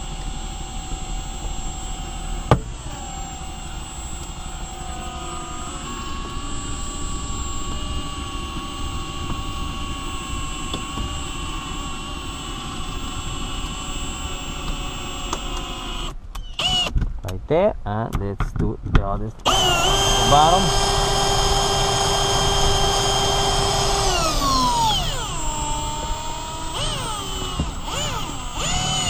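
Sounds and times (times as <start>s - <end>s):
cordless drill motor whine: 0.0s - 17.0s, 19.5s - 29.0s.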